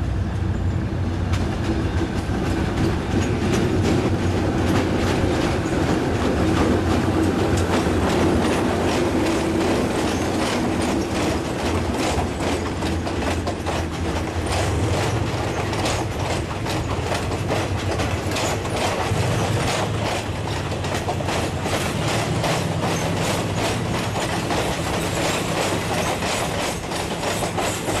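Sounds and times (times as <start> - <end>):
train wheels clattering over joints: 0.0 - 28.0.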